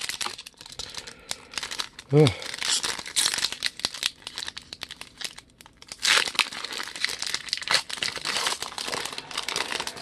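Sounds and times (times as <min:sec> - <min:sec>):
foil wrappers crinkling: 0:00.0 - 0:10.0.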